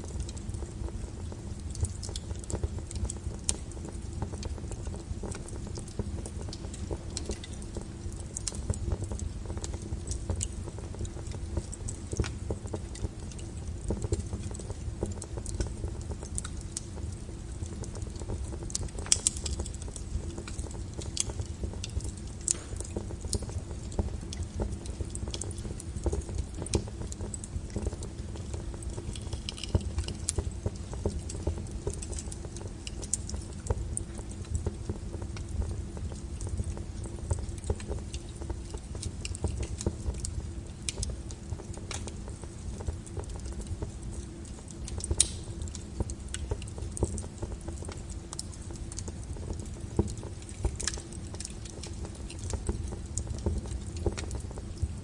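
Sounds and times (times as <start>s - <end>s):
burning wood crackling and popping: 0.0s - 55.0s
wood fire rumbling: 0.0s - 55.0s.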